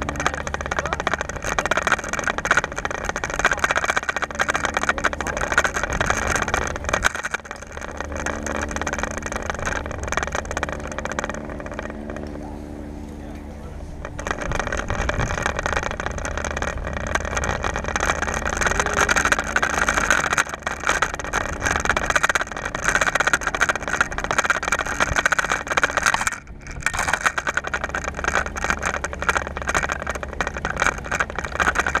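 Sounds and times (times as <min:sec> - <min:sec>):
road rumble: 0:00.0 - 0:32.0
wind buffeting: 0:00.0 - 0:32.0.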